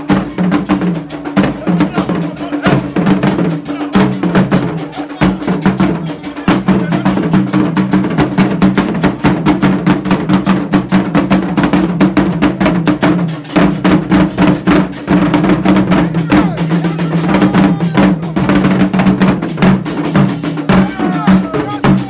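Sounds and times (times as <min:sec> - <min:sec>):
drum ensemble playing fast rhythm: 0:00.0 - 0:22.0.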